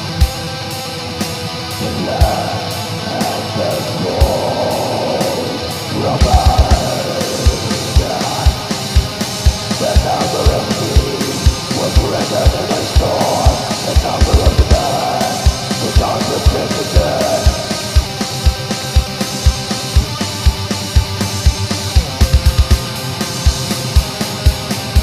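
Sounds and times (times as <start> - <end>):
distorted electric guitars: 0.0 - 25.0
drum kit: 0.0 - 25.0.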